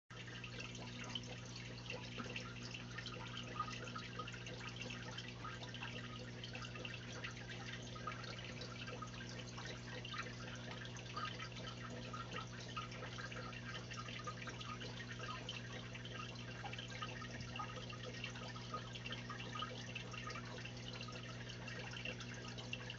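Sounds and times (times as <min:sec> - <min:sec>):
low pump hum: 0:00.1 - 0:22.9
water drips and splashes: 0:00.1 - 0:22.9
water trickling and bubbling: 0:00.1 - 0:22.9.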